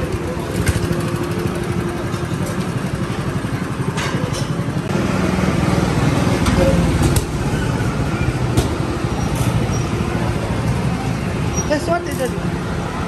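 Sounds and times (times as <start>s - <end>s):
go-kart engines puttering: 0.0s - 13.0s.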